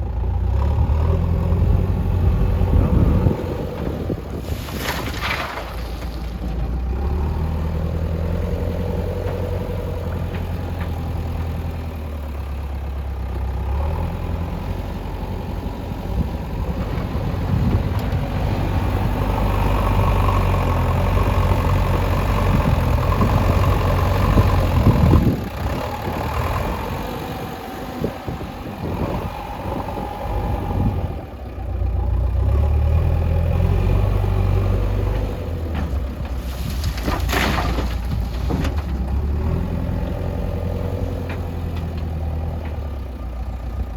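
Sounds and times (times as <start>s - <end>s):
backhoe diesel engine running: 0.0s - 43.9s.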